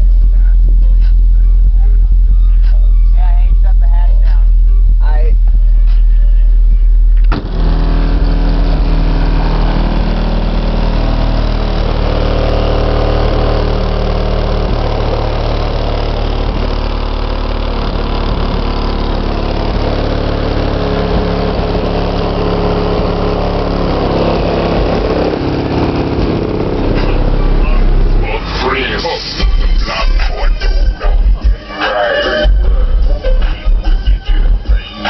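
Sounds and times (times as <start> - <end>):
loud subwoofer bass music: 0.0 - 35.0.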